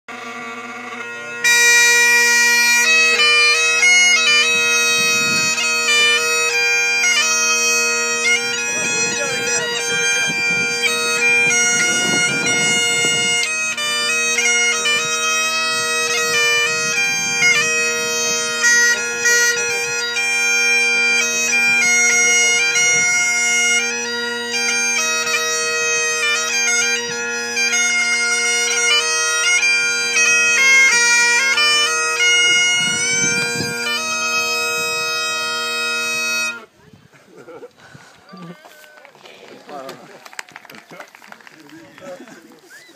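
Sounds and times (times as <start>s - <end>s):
bagpipe playing slow tune: 0.1s - 36.8s.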